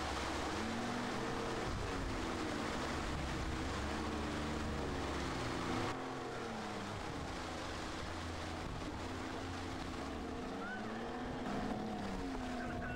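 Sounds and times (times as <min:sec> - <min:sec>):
outboard engine running: 0:00.0 - 0:12.9
wind and water rushing: 0:00.0 - 0:12.9.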